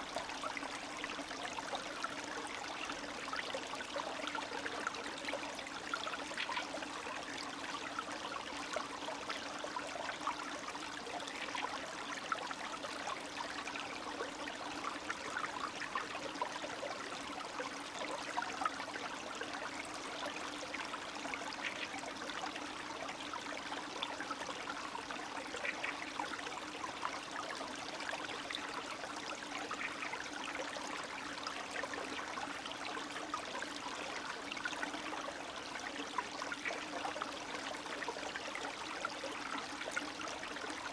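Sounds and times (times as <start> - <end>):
stream babbling and trickling: 0.0 - 40.9.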